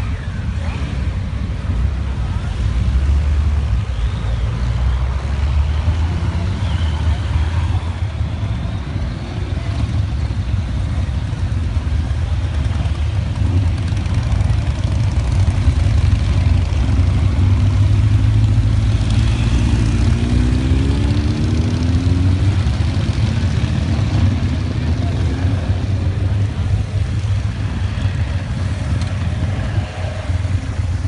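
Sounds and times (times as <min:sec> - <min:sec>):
motorcycle engines rumbling: 0:00.0 - 0:31.0.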